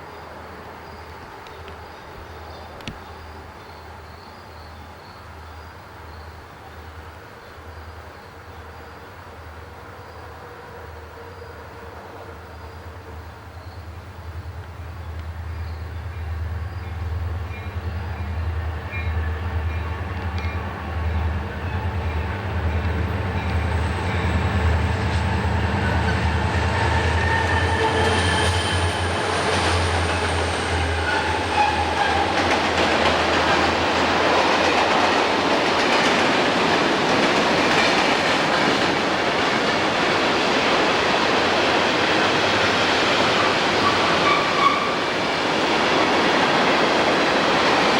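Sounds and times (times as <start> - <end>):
diesel train engine drone: 0.0 - 47.9
rail cars rumbling and clattering: 0.0 - 47.9.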